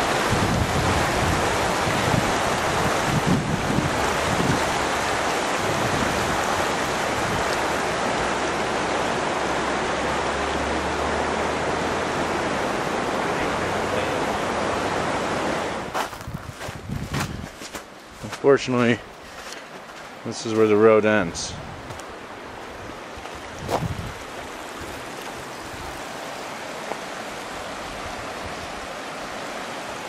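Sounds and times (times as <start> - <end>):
creek rushing over rocks: 0.0 - 30.0.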